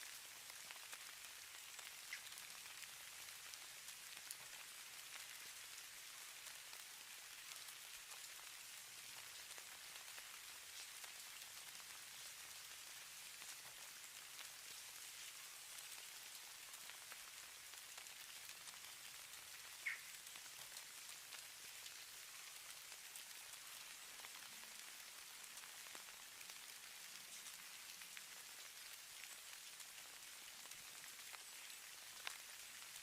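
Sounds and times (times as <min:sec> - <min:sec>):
snowflakes ticking on surfaces: 0:00.0 - 0:33.0.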